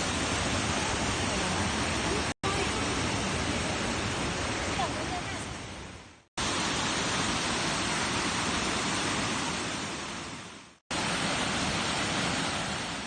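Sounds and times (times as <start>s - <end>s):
waterfall rushing: 0.0s - 5.8s, 6.4s - 13.0s.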